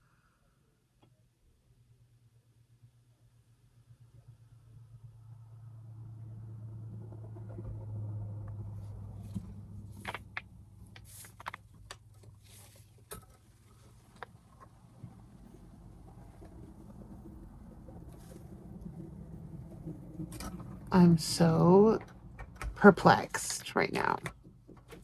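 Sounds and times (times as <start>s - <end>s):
vehicle engine hum: 4.2s - 25.0s.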